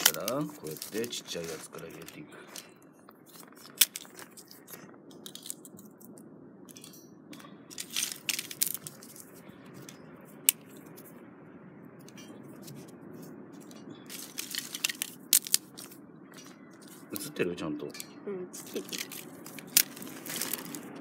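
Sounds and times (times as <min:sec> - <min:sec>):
twigs snapping: 0:00.0 - 0:11.0, 0:13.6 - 0:17.3, 0:18.6 - 0:21.0
fire crackling: 0:00.0 - 0:21.0
low background noise: 0:00.0 - 0:21.0.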